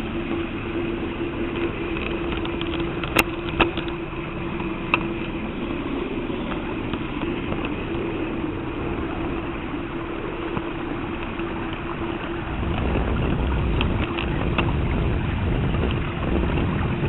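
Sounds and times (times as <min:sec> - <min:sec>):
running gear whine: 0:00.0 - 0:17.0
train rumble: 0:00.0 - 0:17.0
model train running on track: 0:01.3 - 0:17.0.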